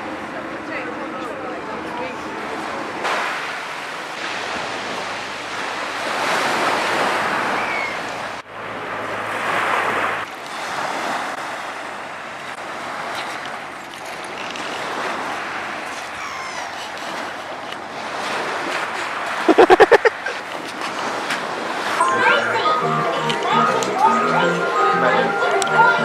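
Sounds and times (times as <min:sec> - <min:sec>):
surf hiss: 0:00.0 - 0:22.1.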